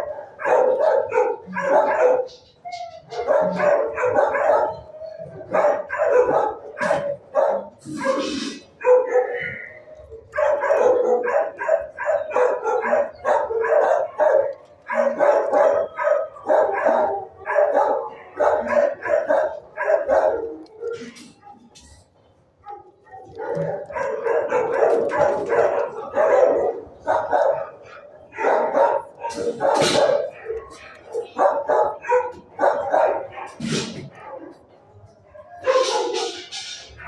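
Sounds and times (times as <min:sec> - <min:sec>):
dogs barking: 0:00.0 - 0:37.0.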